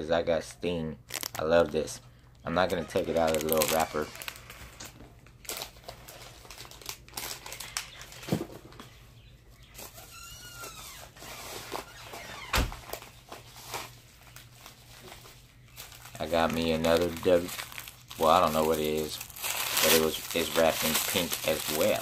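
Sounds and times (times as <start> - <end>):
packaging rustling: 1.0 - 1.9, 2.5 - 9.0, 9.6 - 22.0.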